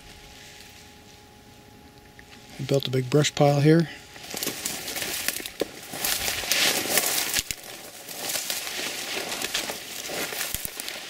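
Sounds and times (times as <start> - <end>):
footsteps crunching twigs and leaves: 0.0 - 11.0.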